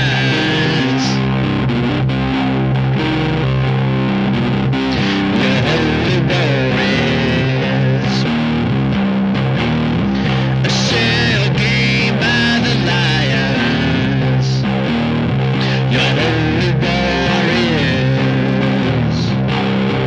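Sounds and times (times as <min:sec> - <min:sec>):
bass line: 0:00.0 - 0:20.0
distorted electric guitar: 0:00.0 - 0:20.0.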